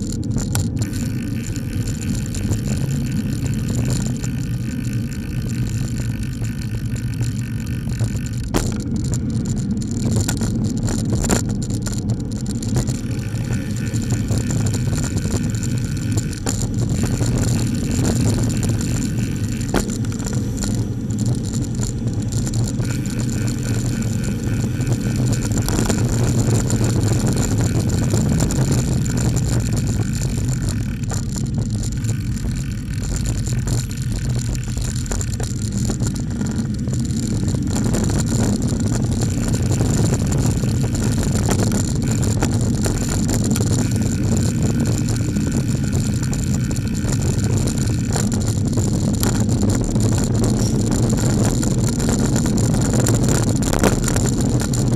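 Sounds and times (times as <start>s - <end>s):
lorry diesel engine rumble: 0.0s - 54.9s
road and wind noise: 0.0s - 54.9s.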